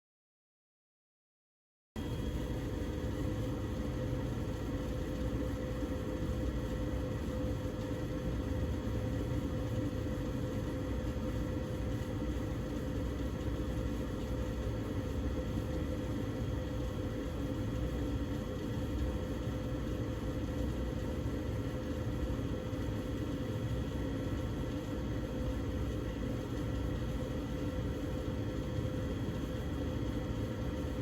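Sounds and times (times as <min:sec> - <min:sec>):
gas furnace humming: 0:02.0 - 0:31.0.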